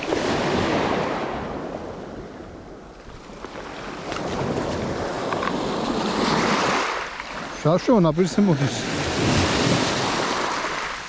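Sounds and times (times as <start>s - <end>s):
sea waves washing ashore: 0.0s - 11.0s.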